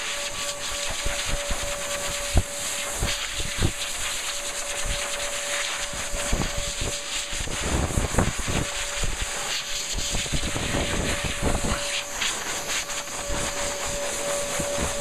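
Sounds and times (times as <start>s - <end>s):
hairdryer blowing: 0.0s - 15.0s.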